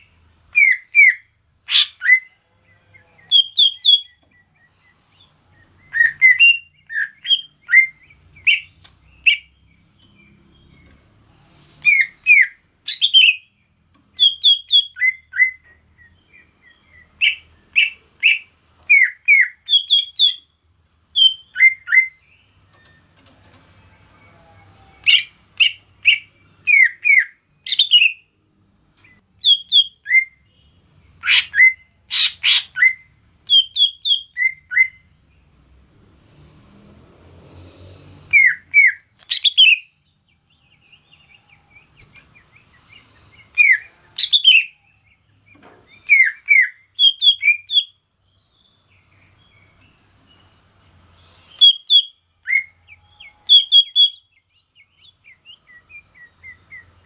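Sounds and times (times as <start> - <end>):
bird singing whistled notes: 0.0 - 10.9, 11.8 - 20.5, 21.1 - 23.1, 24.3 - 28.3, 29.0 - 35.1, 38.3 - 50.6, 51.2 - 57.0.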